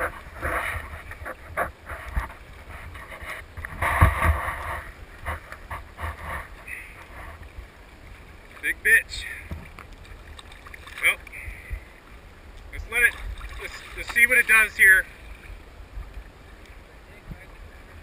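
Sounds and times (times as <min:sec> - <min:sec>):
water slapping against kayak hull: 0:00.0 - 0:08.7, 0:09.4 - 0:11.9, 0:12.5 - 0:16.7.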